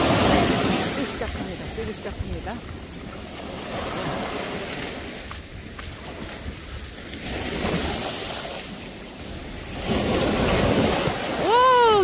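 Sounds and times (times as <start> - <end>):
sea surf washing in: 0.0 - 12.0
wind on the microphone: 0.0 - 12.0.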